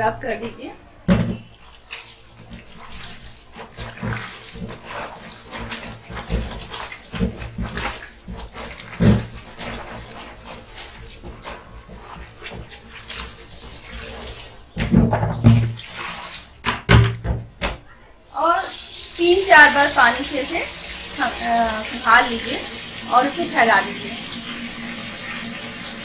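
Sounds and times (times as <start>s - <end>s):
towels squelching in bucket of water: 1.2s - 16.6s, 18.2s - 26.0s.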